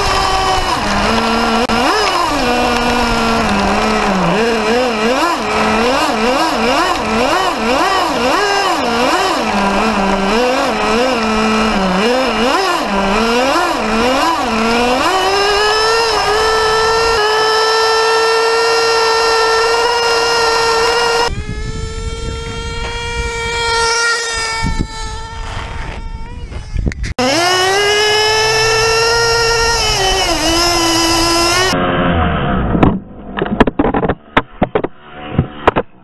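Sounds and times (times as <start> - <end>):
remote control car motor buzzing: 0.0 - 31.8
low bumps: 0.0 - 36.0.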